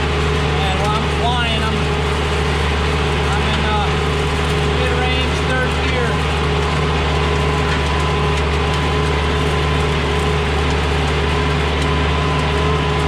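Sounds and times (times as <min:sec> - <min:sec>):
steady whine: 0:00.0 - 0:13.0
tractor diesel engine under load: 0:00.0 - 0:13.0.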